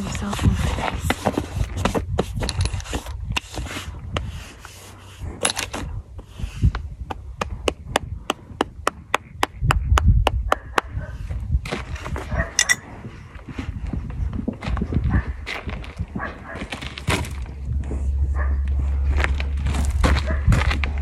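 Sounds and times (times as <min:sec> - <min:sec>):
rubbing and knocking on microphone: 0:00.0 - 0:18.2.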